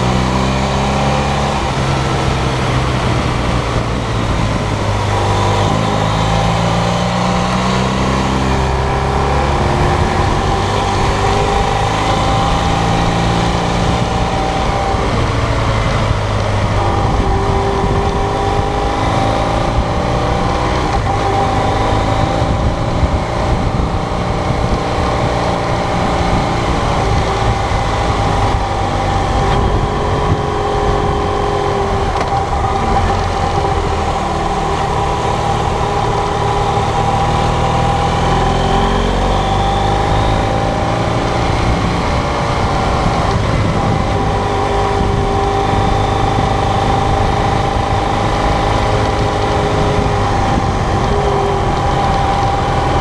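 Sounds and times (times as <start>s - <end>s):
motorcycle engine running: 0.0s - 53.0s
wind rumbling on microphone: 0.0s - 53.0s.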